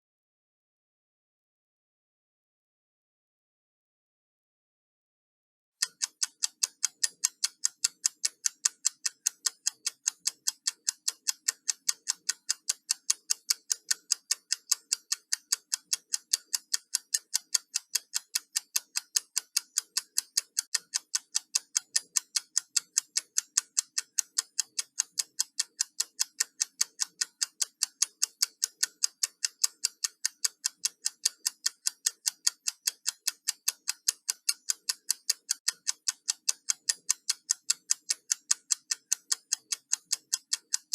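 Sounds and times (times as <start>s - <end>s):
timer ticking: 5.8s - 40.9s.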